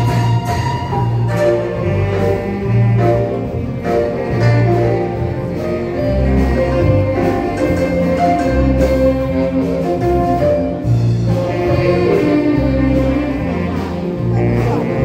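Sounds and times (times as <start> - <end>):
band playing instrumental tune: 0.0 - 15.0.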